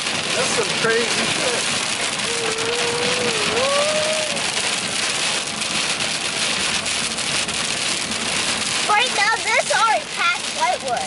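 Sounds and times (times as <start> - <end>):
hail and rain on car roof: 0.0 - 11.0.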